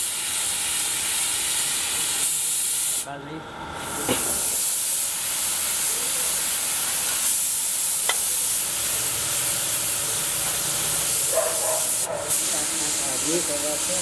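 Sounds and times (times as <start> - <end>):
paint spray gun hissing: 0.0 - 3.1, 4.2 - 14.0.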